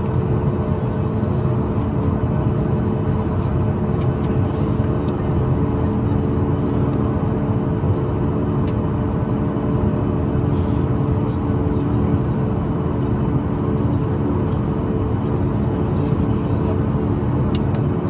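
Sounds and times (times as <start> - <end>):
aircraft cabin drone: 0.0 - 18.0.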